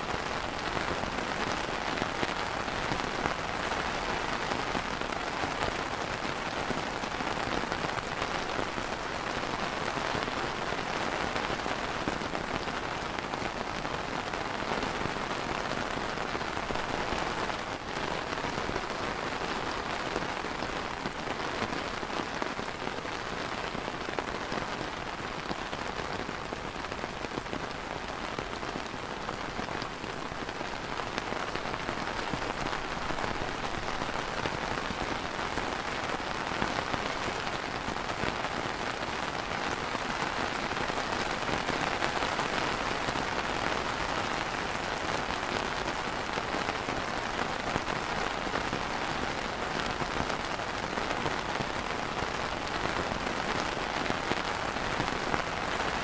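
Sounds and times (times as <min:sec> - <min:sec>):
rain on plastic umbrella: 0:00.0 - 0:56.0.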